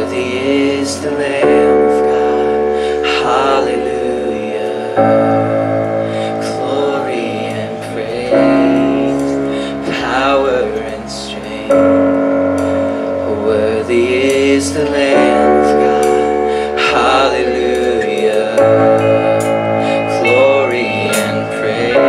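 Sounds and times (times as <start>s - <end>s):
band playing a slow song: 0.0s - 22.0s
person singing: 0.0s - 22.0s.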